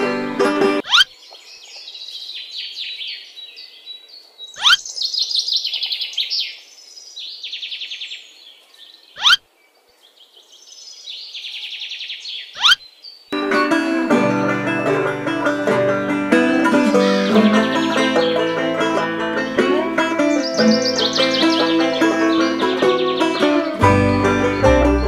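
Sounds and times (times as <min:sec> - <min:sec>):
birds chirping and singing: 0:00.8 - 0:13.4, 0:14.4 - 0:25.0.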